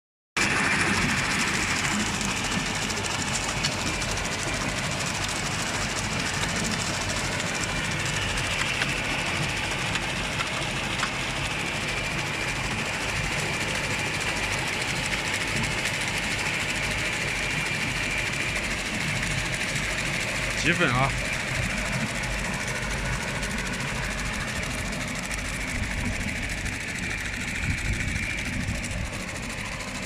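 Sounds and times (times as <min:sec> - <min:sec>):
machine mechanical drone: 0:00.4 - 0:30.0.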